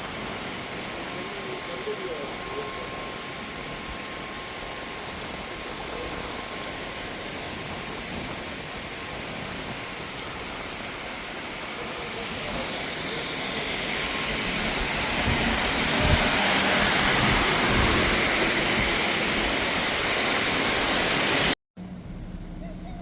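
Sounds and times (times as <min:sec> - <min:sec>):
heavy rain hissing: 0:00.0 - 0:21.6.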